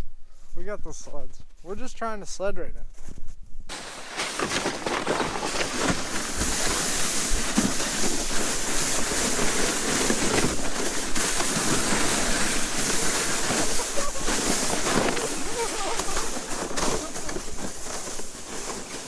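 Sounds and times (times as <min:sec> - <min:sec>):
sled scraping over snow: 0:03.7 - 0:19.0.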